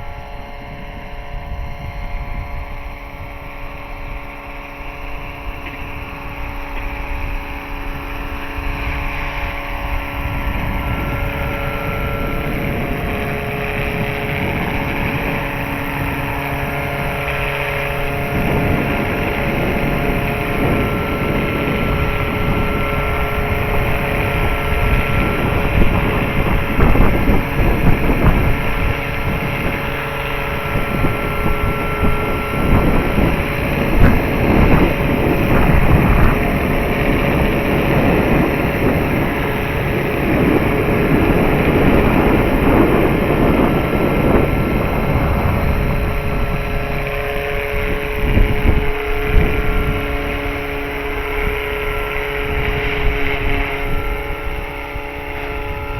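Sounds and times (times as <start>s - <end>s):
electric motor whine and rotor: 0.0s - 55.9s
wind buffeting microphone: 0.0s - 55.9s.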